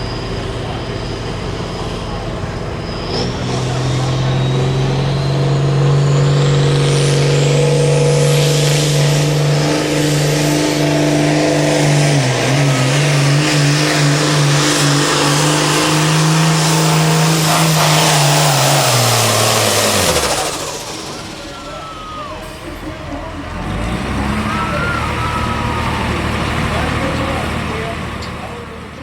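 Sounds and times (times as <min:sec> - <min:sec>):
diesel tractor engine under load: 0:00.0 - 0:29.0
high turbo whine: 0:00.0 - 0:29.0.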